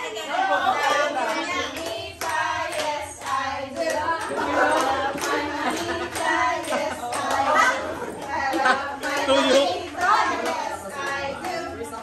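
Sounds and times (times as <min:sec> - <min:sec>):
group of adults singing: 0:00.0 - 0:12.0
hands clapping: 0:00.9 - 0:11.6.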